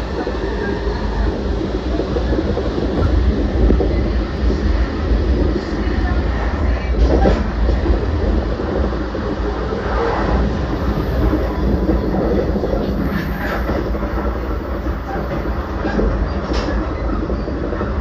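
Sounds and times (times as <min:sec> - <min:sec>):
train clatter: 0:00.0 - 0:18.0
train wheels rumbling on rail: 0:00.0 - 0:18.0.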